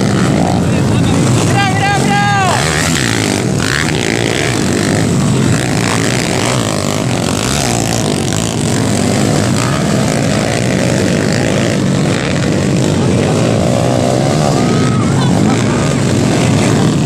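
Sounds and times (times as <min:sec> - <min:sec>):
motorcycle engines running: 0:00.0 - 0:17.0.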